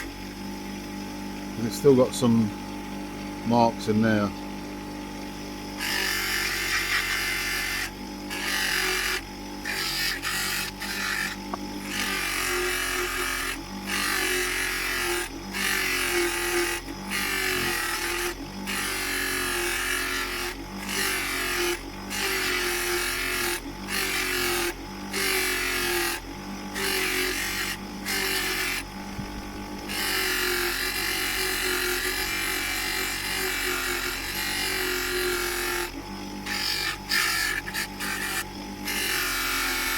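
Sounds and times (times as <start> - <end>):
polishing wheel motor hum: 0.0 - 39.9.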